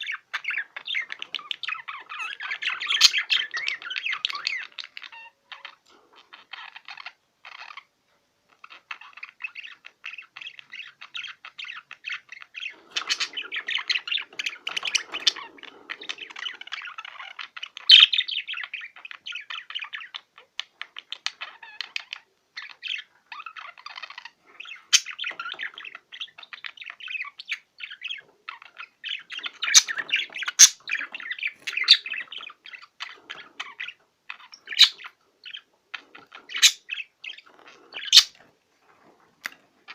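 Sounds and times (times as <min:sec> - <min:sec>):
budgerigar shrill calls: 0:00.0 - 0:05.8, 0:08.7 - 0:20.4, 0:21.4 - 0:38.4
budgerigar warbling chatter: 0:00.0 - 0:07.9, 0:08.6 - 0:38.5.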